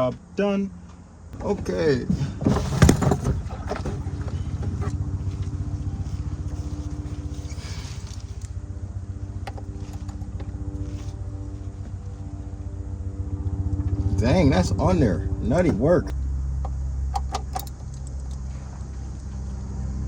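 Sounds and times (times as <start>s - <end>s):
engine idling: 0.7s - 20.0s.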